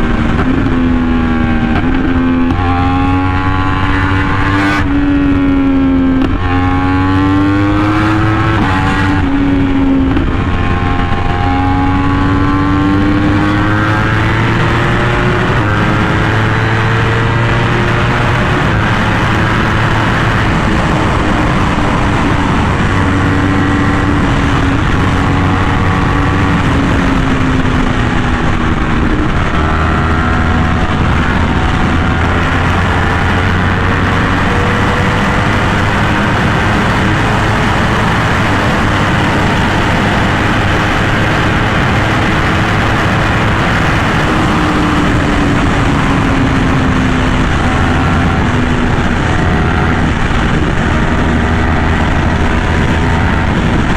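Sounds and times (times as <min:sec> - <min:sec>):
motorcycle engine running hard: 0:00.0 - 0:53.9
wind noise: 0:00.0 - 0:53.9.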